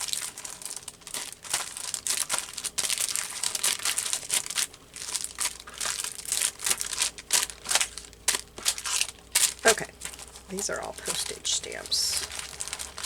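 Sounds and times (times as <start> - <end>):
stamp packets crinkling: 0.0 - 13.0.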